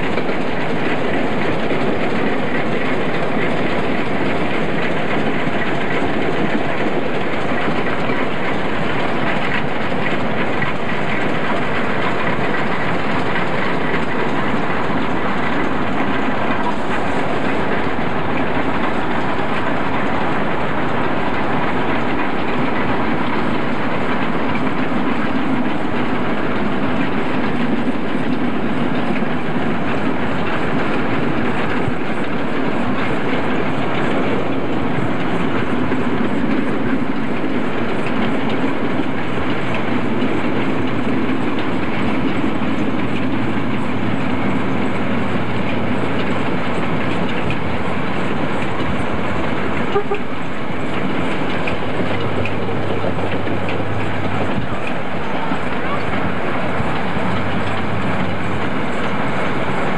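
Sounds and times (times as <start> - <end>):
train running: 0.0 - 59.9.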